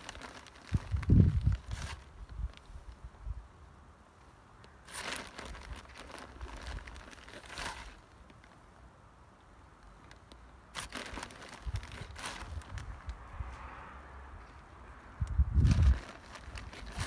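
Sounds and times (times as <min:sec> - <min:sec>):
crinkling and crunching in soil: 0:00.0 - 0:17.0.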